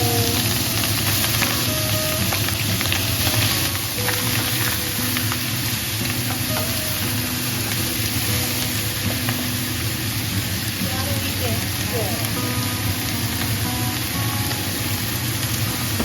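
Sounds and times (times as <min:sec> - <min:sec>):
food sizzling in a pan: 0:00.0 - 0:16.0
soft background music: 0:00.0 - 0:16.0.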